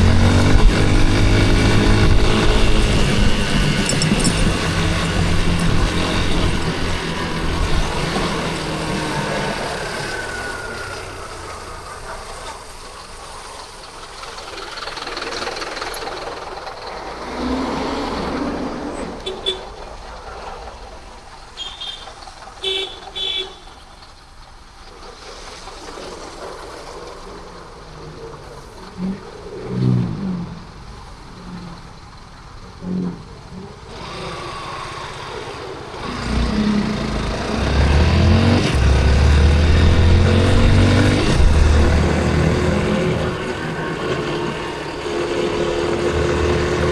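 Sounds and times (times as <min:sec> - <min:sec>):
motorcycle engine: 0:00.0 - 0:24.9, 0:26.2 - 0:46.9
city traffic noise: 0:00.0 - 0:46.9.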